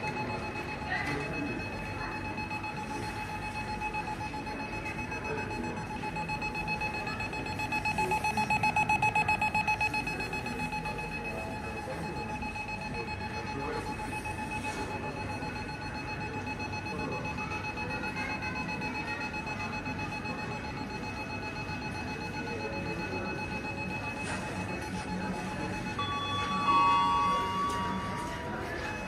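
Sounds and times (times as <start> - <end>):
electronic alarm beeping: 0.0 - 29.0.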